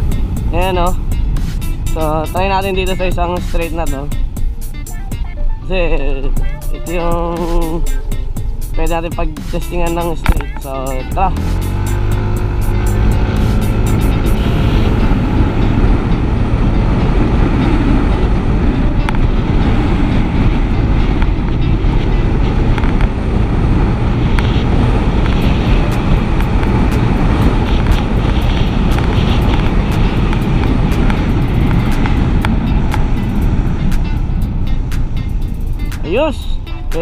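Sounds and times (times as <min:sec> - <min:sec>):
wind buffeting on microphone: 0:00.0 - 0:05.2, 0:06.1 - 0:37.0
scooter engine drone: 0:00.0 - 0:37.0.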